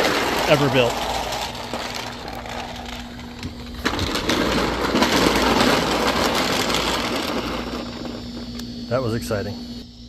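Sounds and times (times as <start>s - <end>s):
caster wheels rolling on concrete: 0.0s - 9.4s
steady low hum: 0.0s - 10.0s.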